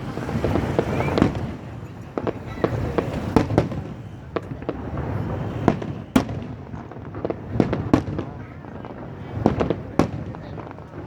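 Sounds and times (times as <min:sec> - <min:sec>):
fireworks bangs and pops: 0:00.0 - 0:11.0
rumble of fireworks bursting: 0:00.0 - 0:11.0.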